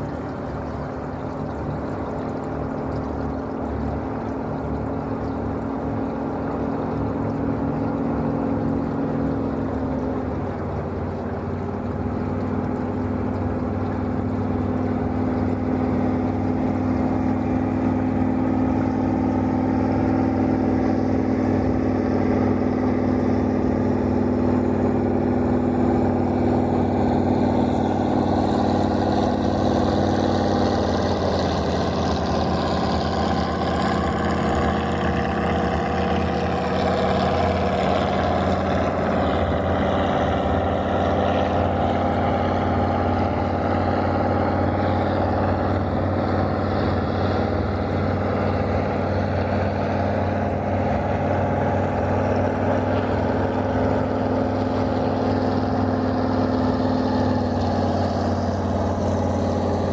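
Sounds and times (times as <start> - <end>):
powerboat engine droning: 0.0 - 59.9.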